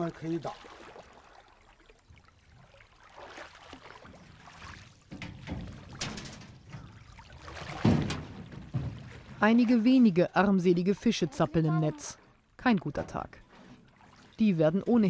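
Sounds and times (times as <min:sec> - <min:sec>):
water dripping and pouring: 0:00.0 - 0:15.0.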